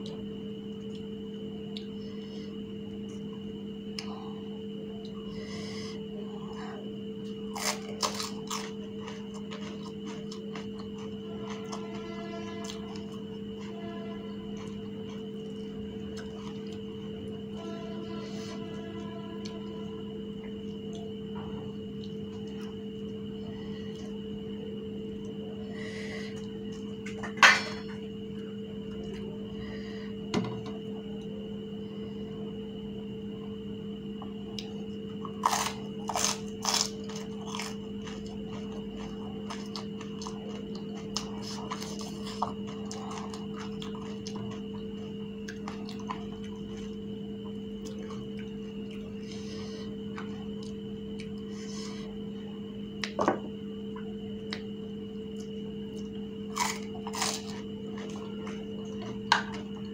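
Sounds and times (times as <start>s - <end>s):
faint high whine: 0.0s - 59.9s
steady low hum: 0.0s - 59.9s.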